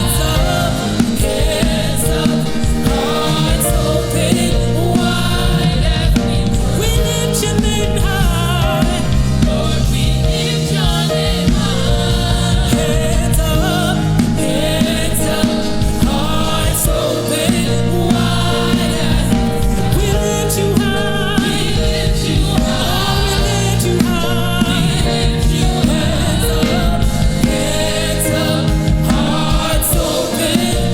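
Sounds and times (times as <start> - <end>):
gospel singers: 0.0 - 30.9
keyboard chords: 0.0 - 30.9
steady bass: 0.0 - 30.9.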